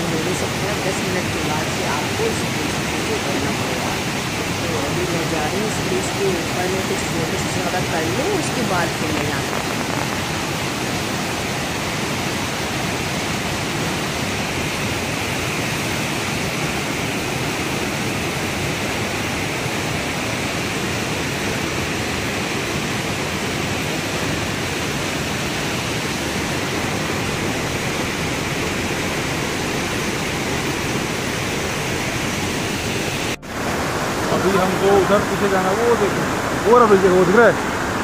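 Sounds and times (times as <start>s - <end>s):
water rushing over rocks: 0.0s - 38.0s.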